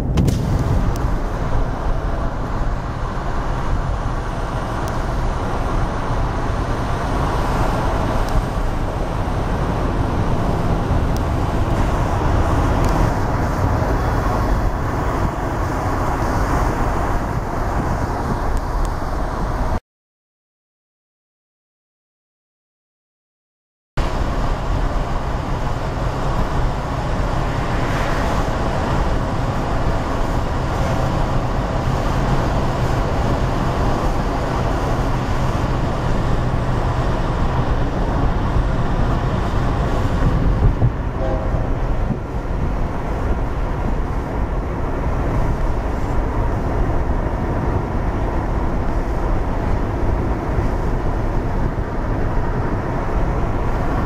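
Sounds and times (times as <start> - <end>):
car road and engine noise: 0.0 - 19.8, 24.0 - 54.0.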